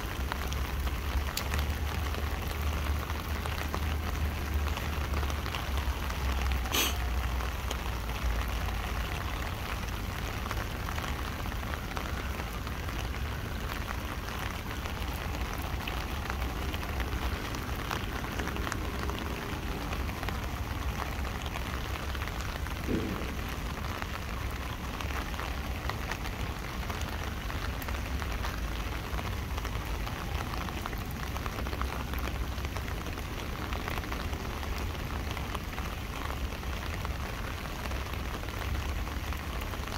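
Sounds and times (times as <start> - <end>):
rain drumming on an umbrella: 0.0 - 39.9.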